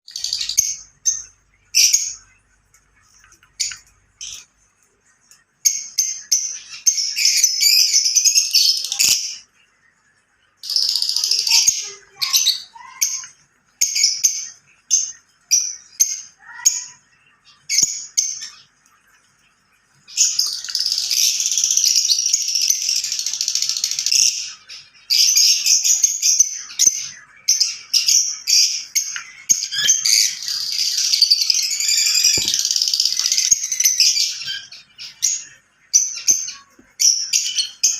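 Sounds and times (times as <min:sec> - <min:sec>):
lovebirds chirping and squawking: 0:00.0 - 0:37.9.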